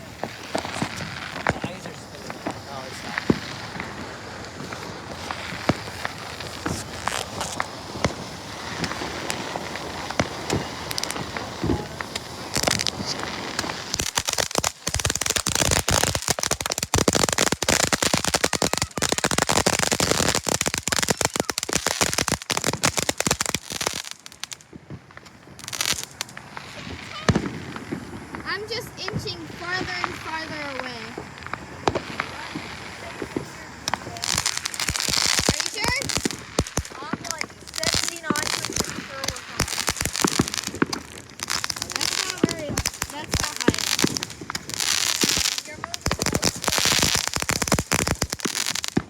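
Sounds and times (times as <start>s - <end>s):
fireworks popping and crackling: 0.0s - 49.0s.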